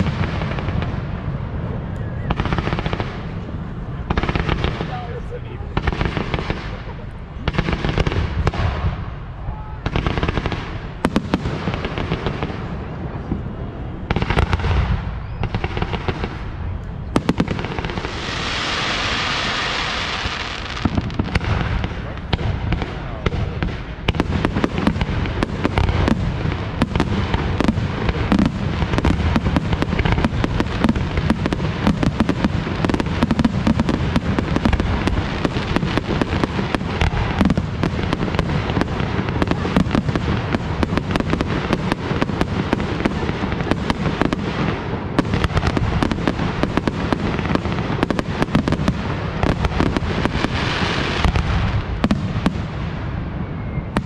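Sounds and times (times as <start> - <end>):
hissing firework crackle: 0.0 - 13.3, 14.0 - 54.0.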